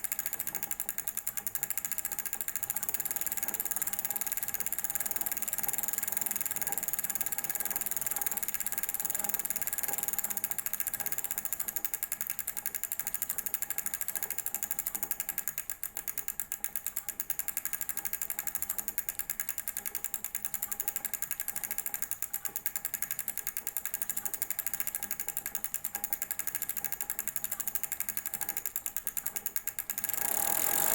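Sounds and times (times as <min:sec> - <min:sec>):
bicycle wheel whirring and clicking: 0:00.0 - 0:30.9.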